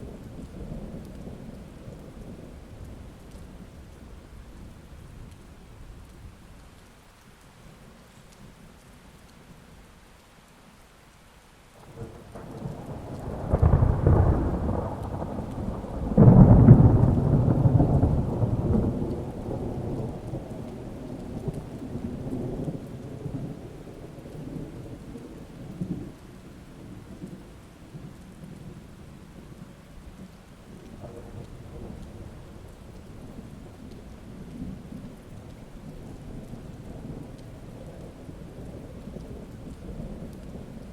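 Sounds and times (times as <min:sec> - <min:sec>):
rolling thunder: 0:00.0 - 0:06.4, 0:11.8 - 0:40.9
steady rain: 0:00.0 - 0:40.9.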